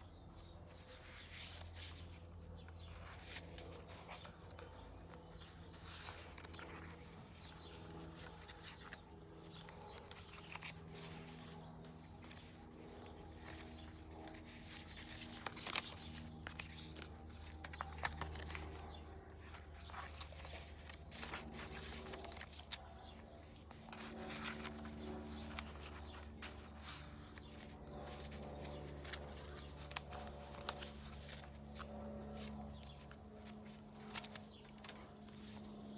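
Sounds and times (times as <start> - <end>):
paper pages rustling: 0.6 - 35.9.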